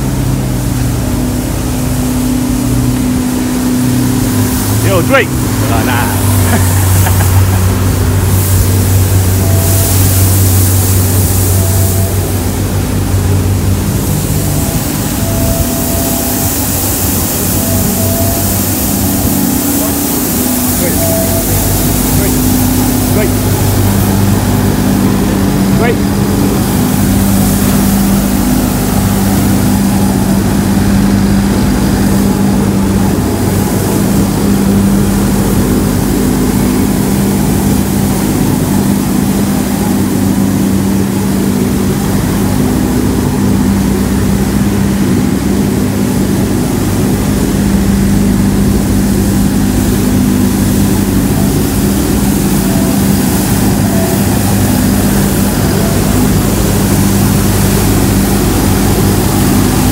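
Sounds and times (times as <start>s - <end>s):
street sweeper engine drone: 0.0s - 59.9s.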